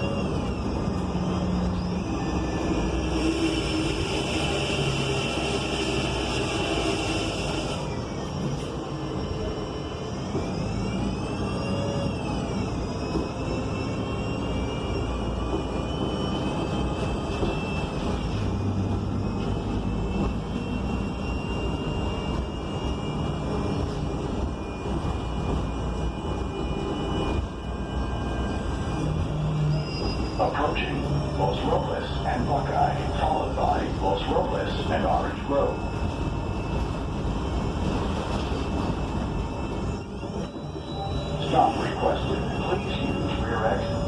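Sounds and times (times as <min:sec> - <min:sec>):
bus engine rumble: 0:00.0 - 0:44.0
high transmission whine: 0:00.0 - 0:44.0.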